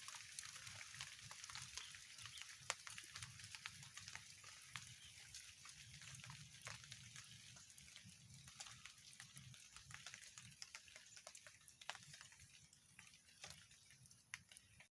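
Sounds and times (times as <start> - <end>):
fire crackling and popping: 0.0 - 14.9.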